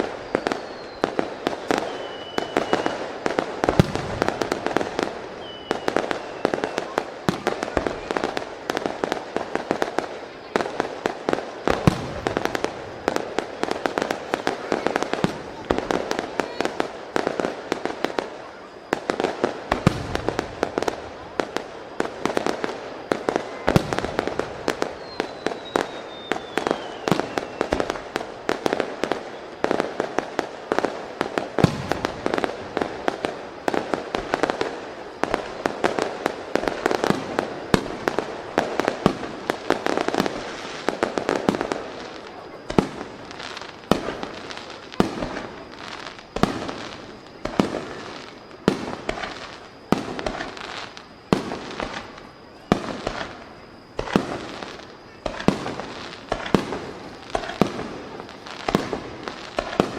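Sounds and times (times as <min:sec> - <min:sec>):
falling firework whistle: 0:00.0 - 0:59.9
fireworks bangs: 0:00.0 - 0:59.9.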